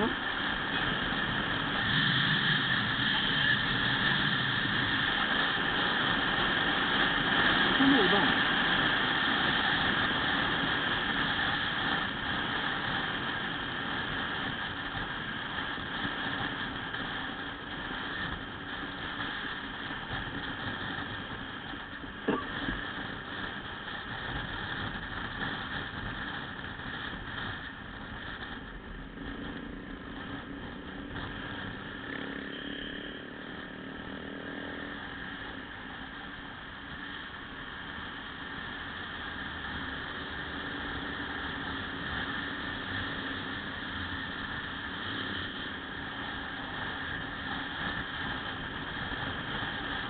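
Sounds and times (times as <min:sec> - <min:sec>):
small motorcycle engines humming: 0:00.0 - 0:50.0
wind and road noise: 0:00.0 - 0:50.0.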